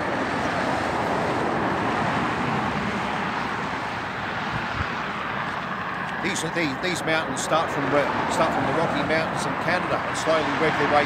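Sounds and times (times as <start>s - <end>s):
car passing tyre noise: 0.0s - 11.0s.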